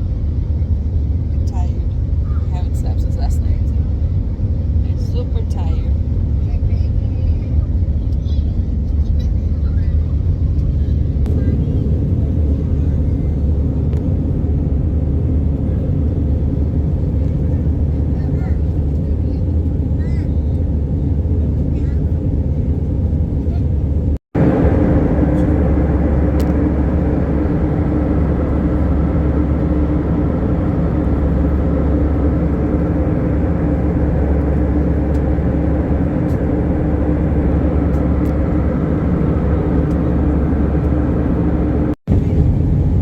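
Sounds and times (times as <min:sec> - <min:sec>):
airliner cabin drone: 0:00.0 - 0:43.0
steady hum: 0:00.0 - 0:43.0.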